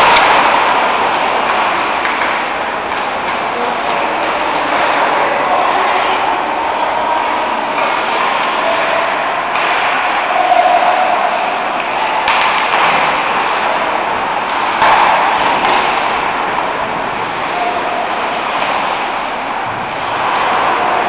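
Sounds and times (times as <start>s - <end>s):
ice rink din: 0.0s - 21.0s.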